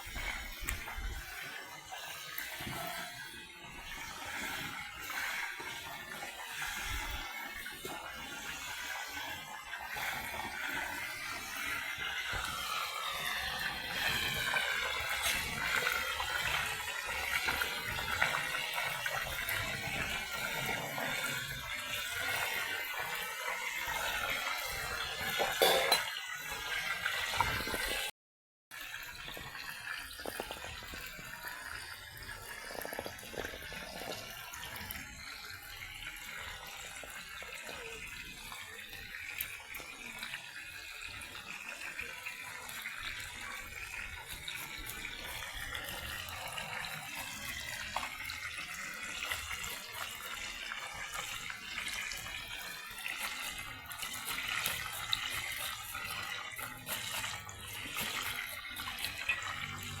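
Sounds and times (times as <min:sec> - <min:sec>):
water running into a sink: 0:00.0 - 0:28.1, 0:28.7 - 1:00.0.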